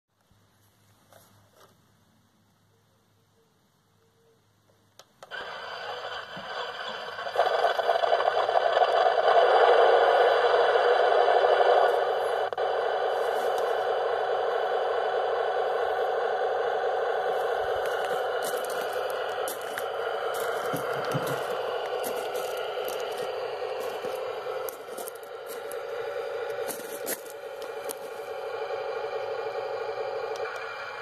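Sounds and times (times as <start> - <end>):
tinny toy engine sound: 5.3 - 31.0.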